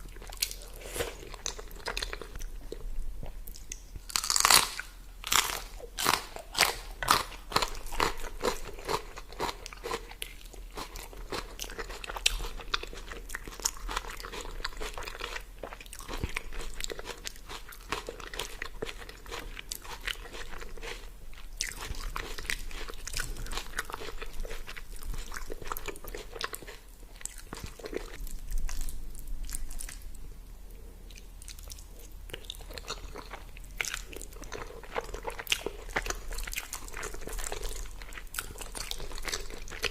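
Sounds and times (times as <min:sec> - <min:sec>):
person chewing crunchy food: 0:00.0 - 0:30.2, 0:30.8 - 0:39.9.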